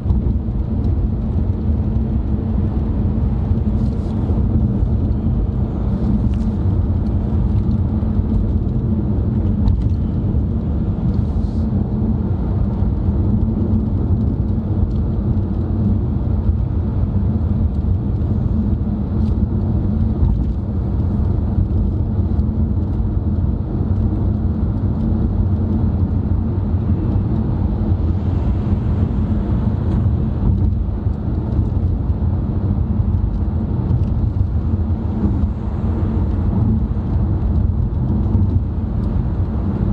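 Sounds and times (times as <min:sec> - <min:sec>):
car cabin road noise: 0:00.0 - 0:39.9.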